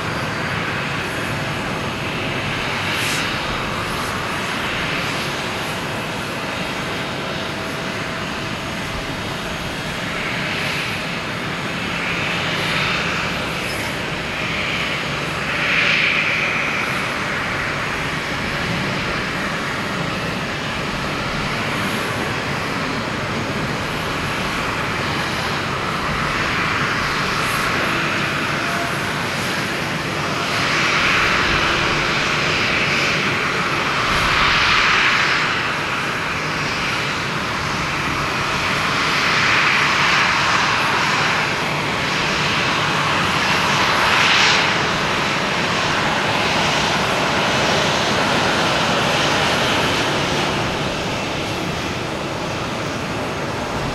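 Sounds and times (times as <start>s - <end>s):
jet engine rushing: 0.0s - 53.9s.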